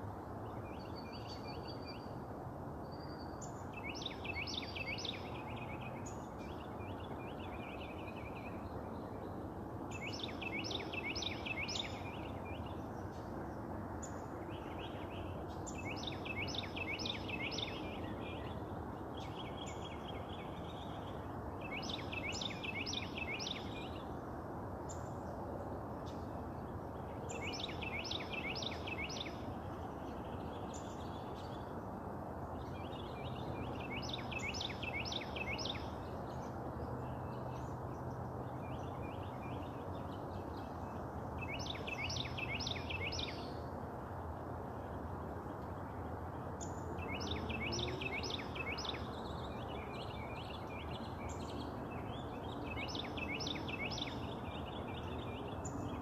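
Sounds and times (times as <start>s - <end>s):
songbird singing: 0.3s - 56.0s.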